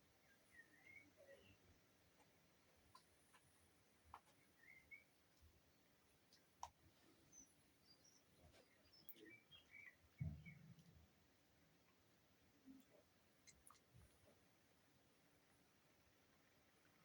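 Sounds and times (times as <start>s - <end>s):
faint bird chirps: 0.0s - 14.4s.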